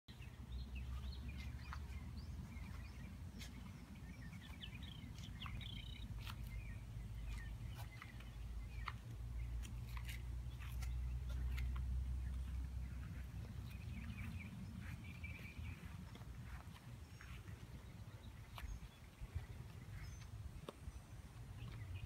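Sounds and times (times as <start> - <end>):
birds chirping: 0.1 - 22.0
steady low rumble: 0.1 - 22.0.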